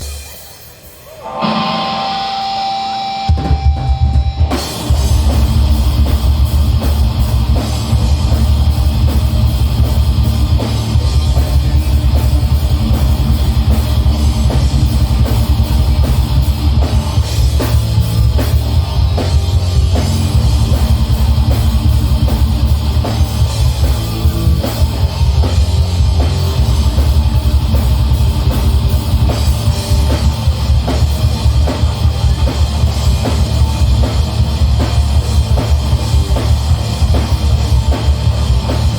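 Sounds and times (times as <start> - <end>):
distorted guitars: 0.0 - 38.9
fast dense drumming: 3.3 - 38.9.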